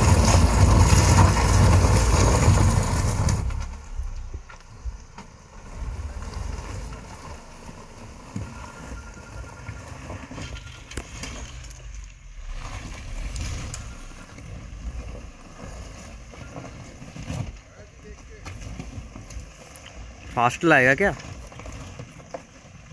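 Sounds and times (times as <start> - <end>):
car rumbling over rough road: 0.0 - 22.9.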